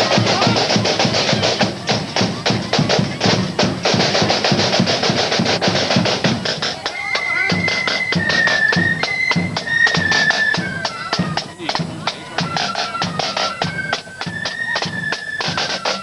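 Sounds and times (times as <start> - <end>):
flutes playing high melody: 0.0 - 16.0
low drum beats: 0.0 - 16.0
snare drums playing rolls: 0.0 - 16.0.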